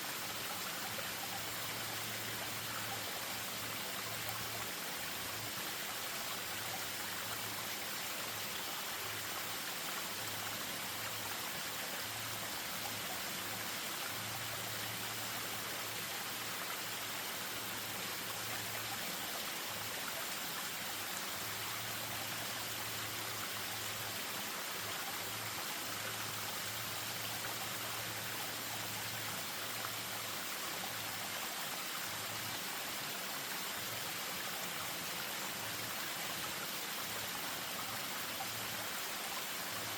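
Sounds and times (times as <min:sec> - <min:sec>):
stream over small waterfall: 0:00.0 - 0:39.9.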